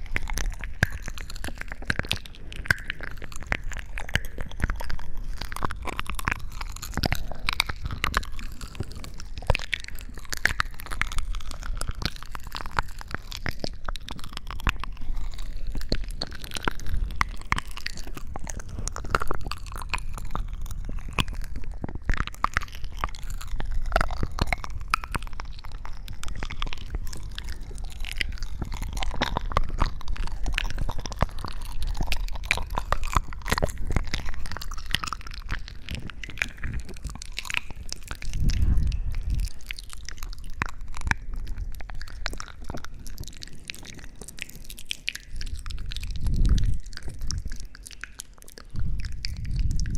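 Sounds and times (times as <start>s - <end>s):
close crunching crackles and clicks: 0.0s - 49.9s.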